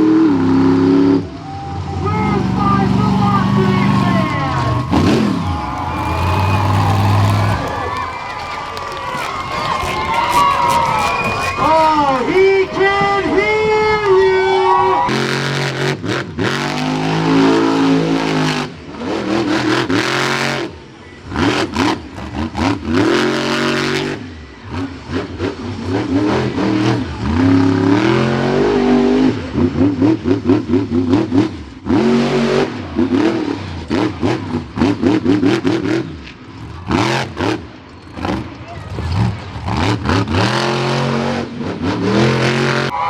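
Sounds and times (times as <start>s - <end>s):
truck engine revving hard: 0.0s - 13.2s, 15.0s - 43.0s.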